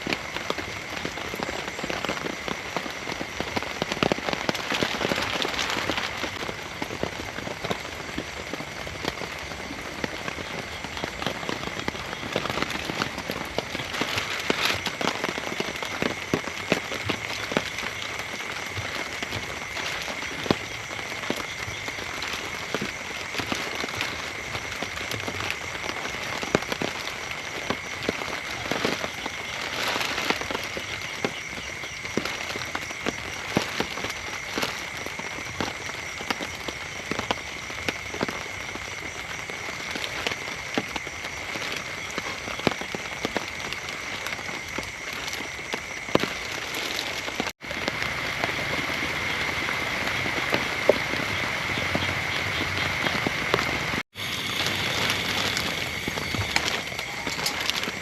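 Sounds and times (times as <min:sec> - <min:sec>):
heavy rain: 0:00.0 - 0:58.0
raindrops tapping sharply: 0:00.0 - 0:58.0.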